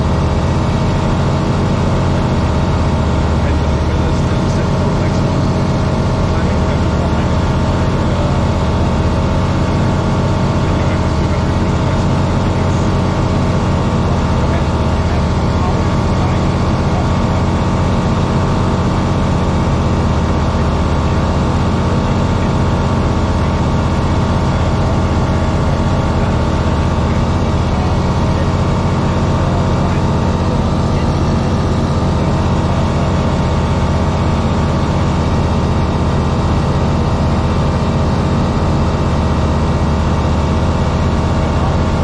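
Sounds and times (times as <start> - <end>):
aircraft engine drone in cockpit: 0.0 - 42.0.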